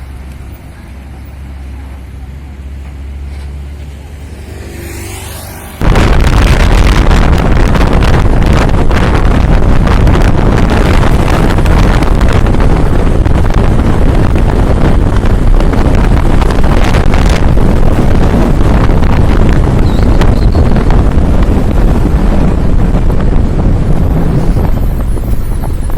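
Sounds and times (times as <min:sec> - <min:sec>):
road noise: 0:00.0 - 0:25.9
truck engine: 0:00.0 - 0:25.9
wind buffeting microphone: 0:04.4 - 0:25.9.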